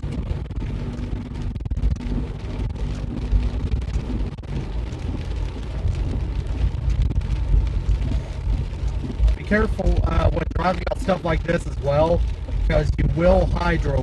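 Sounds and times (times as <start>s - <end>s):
engine and road rumble: 0.0s - 14.0s
rain hitting truck: 0.0s - 14.0s
steady hum: 0.0s - 14.0s.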